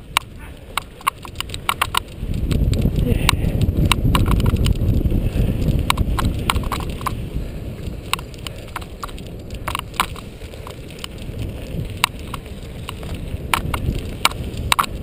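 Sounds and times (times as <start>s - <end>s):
bike rattling clicks: 0.0s - 15.0s
wind and rough ground rumble: 0.0s - 15.0s.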